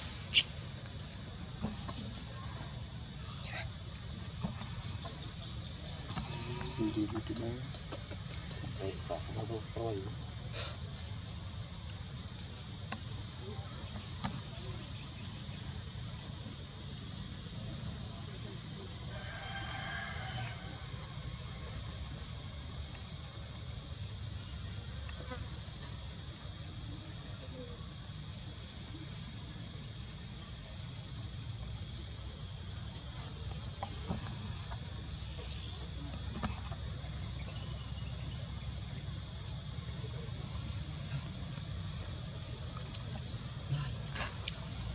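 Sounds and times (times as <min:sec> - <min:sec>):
high-pitched insect drone: 0:00.0 - 0:11.6, 0:12.2 - 0:44.9.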